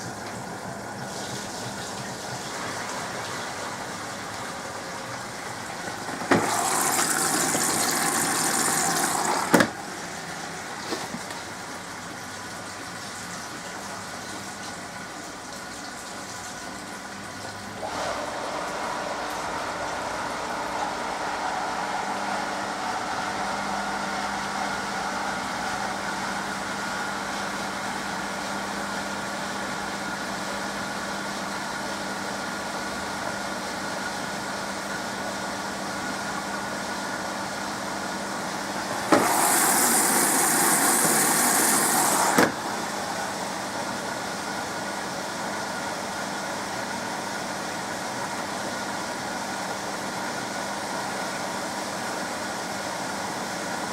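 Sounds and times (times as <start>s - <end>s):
washing machine motor hum: 0.0s - 53.9s.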